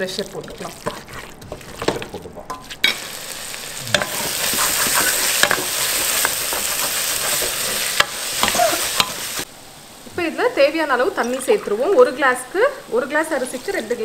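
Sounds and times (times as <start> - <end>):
chicken sizzling in a pot: 0.0 - 14.0.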